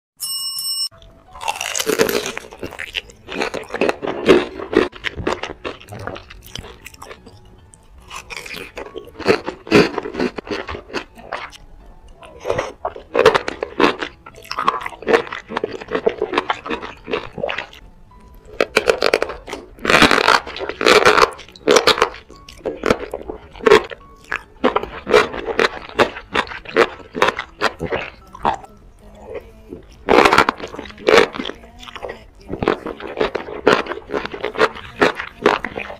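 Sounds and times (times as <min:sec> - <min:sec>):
wet chewing: 0:01.0 - 0:35.9.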